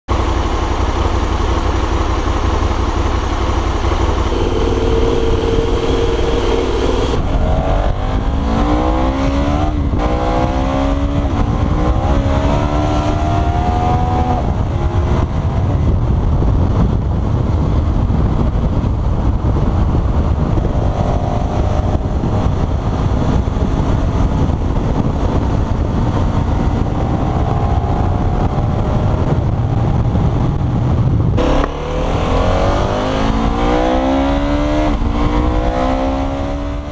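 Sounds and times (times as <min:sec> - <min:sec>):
motorcycle engine accelerating: 0:00.1 - 0:36.9
wind noise on microphone: 0:00.1 - 0:36.9.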